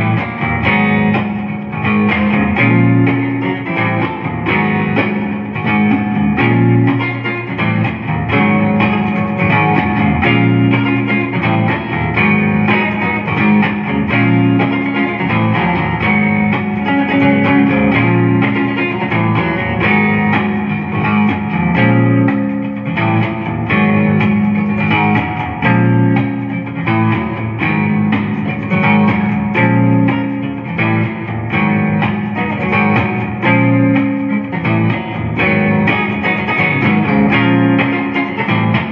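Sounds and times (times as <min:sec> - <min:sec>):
clean electric guitar playing: 0:00.0 - 0:38.9.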